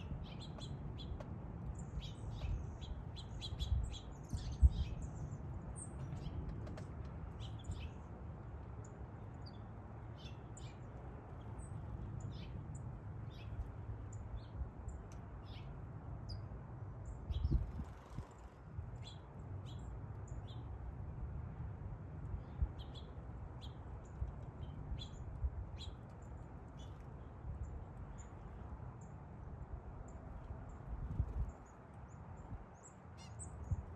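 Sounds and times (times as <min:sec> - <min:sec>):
small birds chirping: 0:00.0 - 0:21.0, 0:22.2 - 0:29.3, 0:30.0 - 0:33.9.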